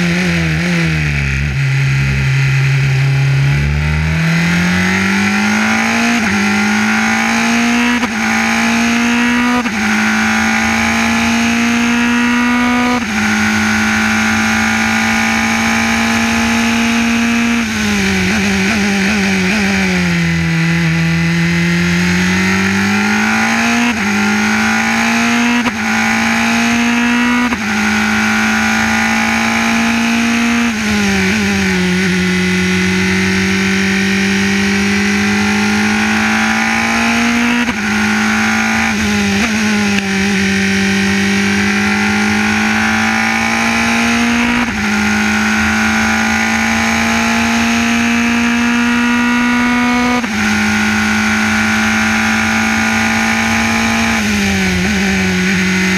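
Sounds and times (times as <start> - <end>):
race car engine running hard: 0.0 - 55.9.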